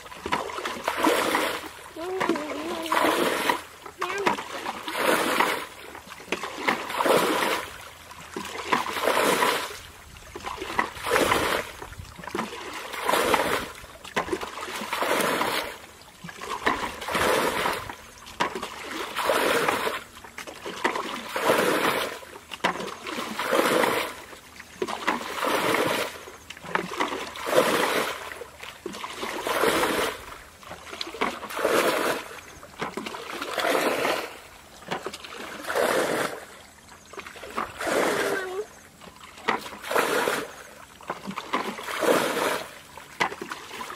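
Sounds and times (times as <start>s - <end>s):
water scooped and splashed: 0.0s - 43.9s.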